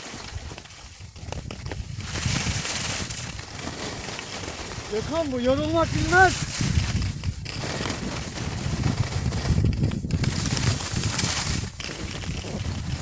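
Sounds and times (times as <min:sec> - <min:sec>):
skis scraping over hard snow: 0:00.0 - 0:13.0
wind buffeting microphone: 0:00.3 - 0:13.0.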